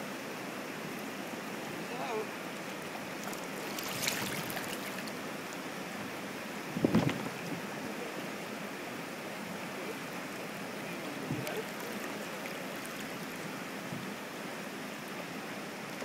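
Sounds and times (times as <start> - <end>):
river rapids rushing over rocks: 0.0 - 6.7, 7.3 - 16.0.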